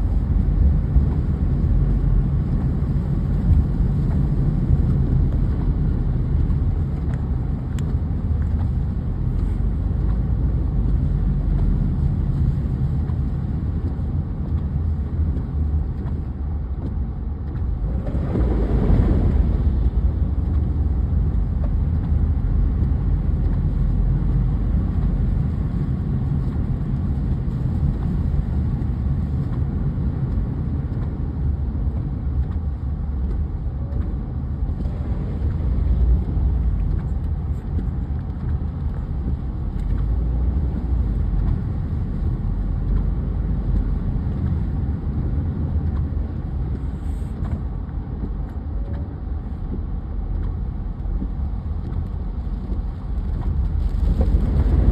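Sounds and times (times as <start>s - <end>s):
car driving rumble: 0.0s - 54.9s.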